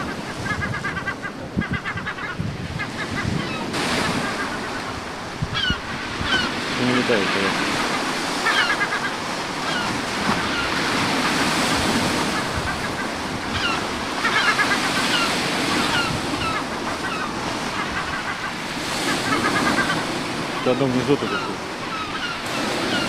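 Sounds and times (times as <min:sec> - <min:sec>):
sea surf washing ashore: 0:00.0 - 0:23.0
wind: 0:00.0 - 0:23.0.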